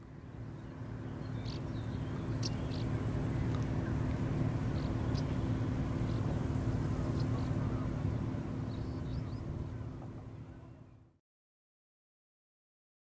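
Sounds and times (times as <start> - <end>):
ship engines droning: 0.0 - 11.1.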